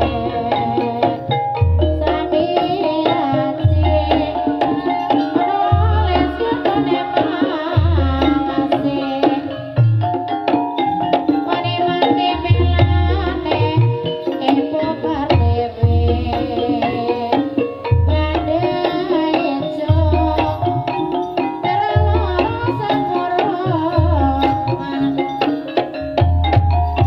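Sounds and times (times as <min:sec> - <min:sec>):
person singing: 0:00.0 - 0:09.8, 0:11.4 - 0:25.6
deep beat: 0:00.0 - 0:14.1, 0:14.8 - 0:27.0
gamelan-style instruments: 0:00.0 - 0:27.0
hand drums: 0:00.0 - 0:27.0.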